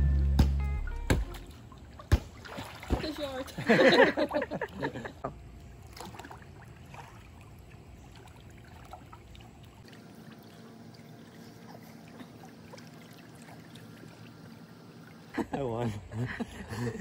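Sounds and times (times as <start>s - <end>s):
pool water sloshing: 0.9s - 17.0s
small splashes: 1.1s - 15.4s.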